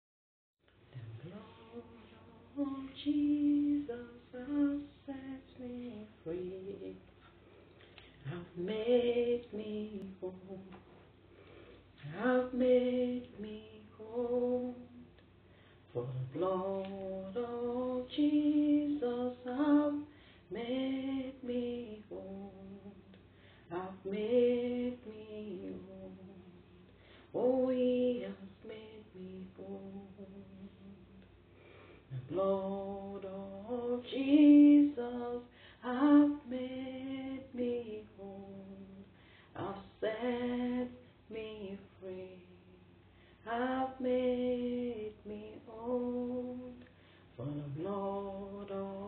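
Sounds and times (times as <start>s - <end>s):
woman singing unaccompanied: 0.9s - 7.1s, 8.2s - 11.0s, 12.0s - 15.2s, 15.9s - 31.3s, 32.1s - 49.0s.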